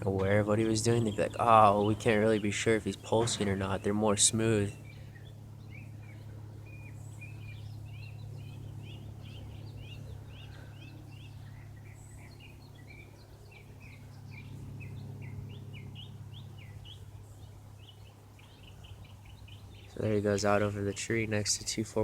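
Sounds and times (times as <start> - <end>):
light plane engine drone: 0.0 - 22.0
small birds chirping: 0.0 - 22.0.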